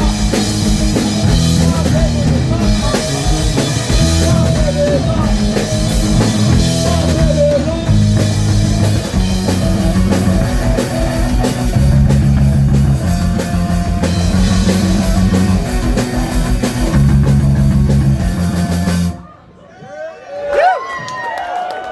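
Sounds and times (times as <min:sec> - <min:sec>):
prominent bass line: 0:00.0 - 0:19.2
live rock band playing: 0:00.0 - 0:19.3.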